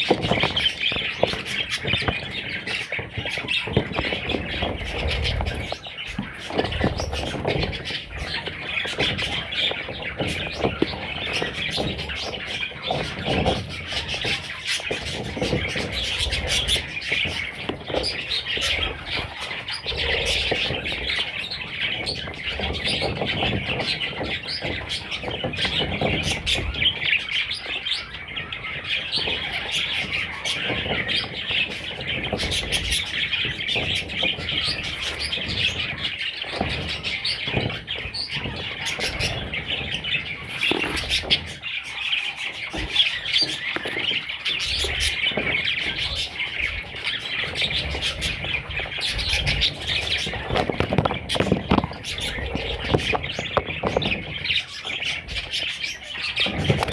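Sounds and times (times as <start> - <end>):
budgerigars chirping and chattering: 0.0 - 56.9
rustles: 0.0 - 56.9.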